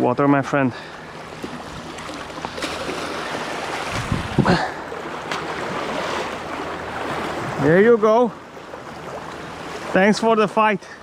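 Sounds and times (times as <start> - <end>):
sea water washing against shore: 0.8 - 11.0.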